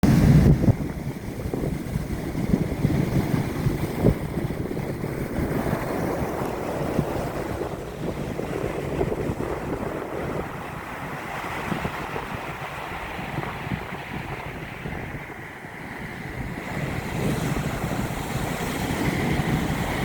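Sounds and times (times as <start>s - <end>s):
waves breaking: 0.0s - 20.0s
wind buffeting microphone: 0.0s - 20.0s.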